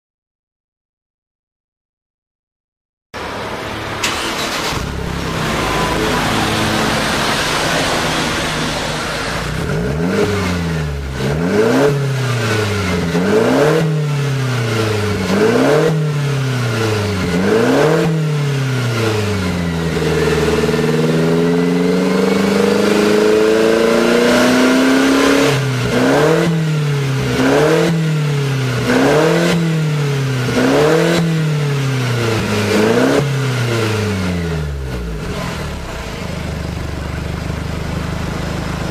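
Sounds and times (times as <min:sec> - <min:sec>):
car engine idling and revving: 0:03.2 - 0:38.9.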